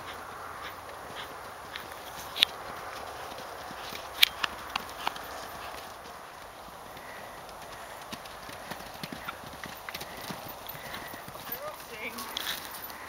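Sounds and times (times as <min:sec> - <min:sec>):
horse hooves on grass: 0:00.0 - 0:13.0.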